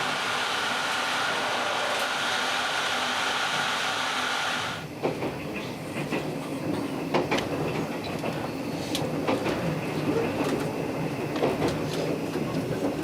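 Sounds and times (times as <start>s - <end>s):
train running on rails: 0.0s - 13.0s.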